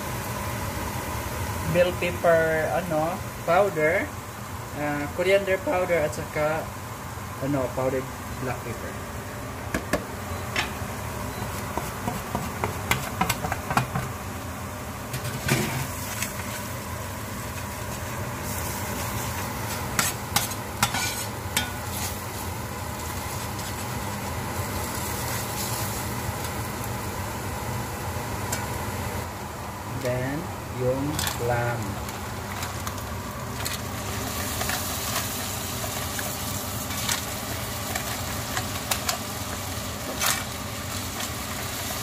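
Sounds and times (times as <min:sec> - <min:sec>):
food sizzling in a pan: 0:00.0 - 0:42.0.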